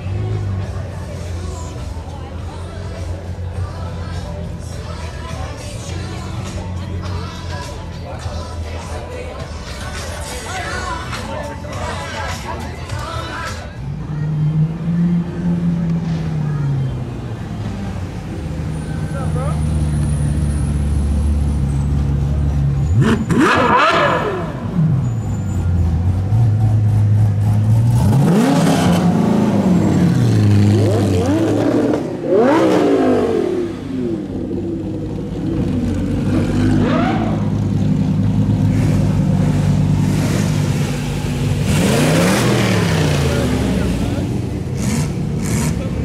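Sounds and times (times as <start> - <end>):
car engine revving and idling: 0.0 - 46.0.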